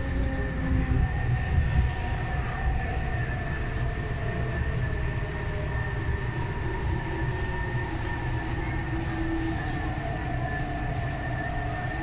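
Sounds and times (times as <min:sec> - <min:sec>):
high-pitched train whine: 0:00.0 - 0:12.0
wheels rumbling on track: 0:00.0 - 0:12.0.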